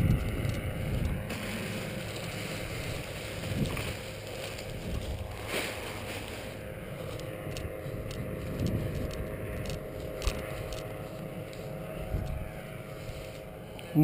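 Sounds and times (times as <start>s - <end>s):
wind buffeting microphone: 0.0s - 13.7s
rustle of wing fabric: 1.3s - 13.6s.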